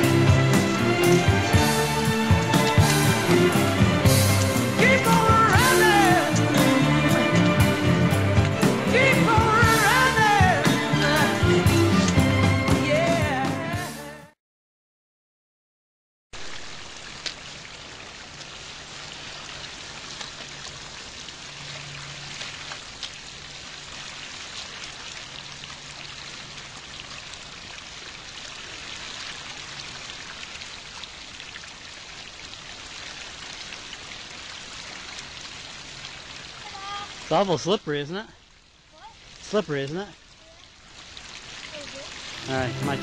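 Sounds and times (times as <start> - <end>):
stream water running: 0.0 - 13.4, 16.4 - 43.0.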